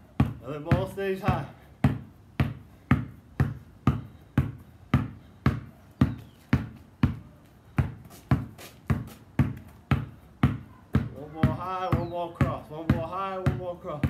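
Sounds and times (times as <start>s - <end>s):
basketballs bouncing on concrete: 0.0s - 14.0s.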